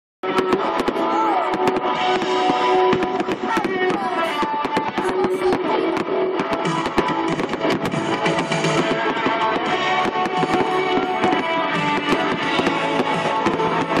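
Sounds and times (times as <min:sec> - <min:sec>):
fireworks cracking and popping: 0:00.2 - 0:14.0
guitar music: 0:00.4 - 0:14.0.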